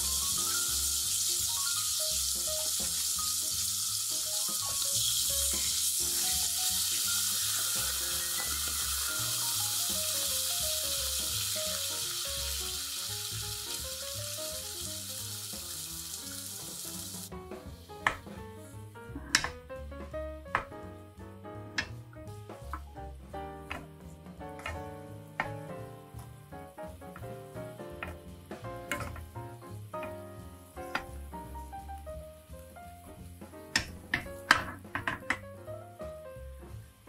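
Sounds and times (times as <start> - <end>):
fish sizzling in a frying pan: 0.0 - 18.8, 23.6 - 35.4.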